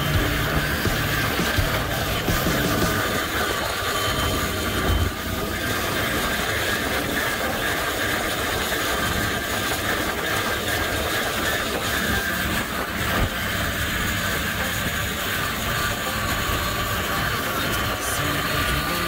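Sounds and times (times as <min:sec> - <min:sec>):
vehicle engine rumble and whine: 0:00.0 - 0:19.0.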